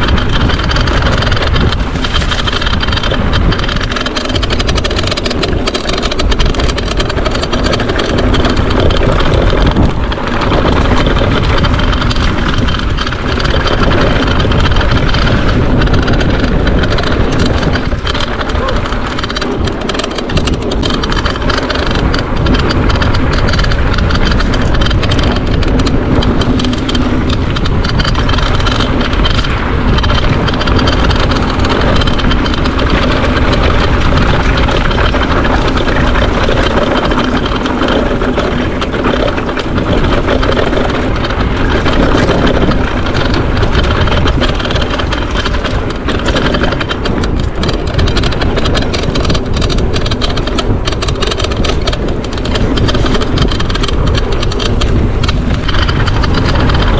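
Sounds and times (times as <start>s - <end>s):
bike rattles and knocks: 0.0s - 56.9s
tyre and wind rush: 0.0s - 56.9s.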